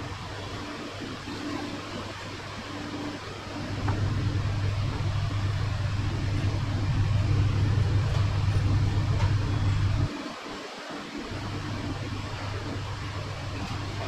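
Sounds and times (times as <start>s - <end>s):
low mechanical machine hum: 0.0s - 14.0s.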